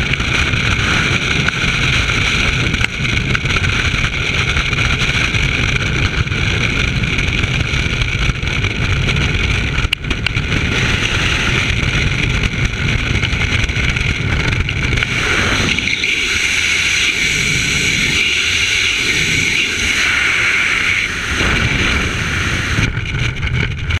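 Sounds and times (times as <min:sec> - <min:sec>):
freefall wind rushing: 0:00.0 - 0:24.0.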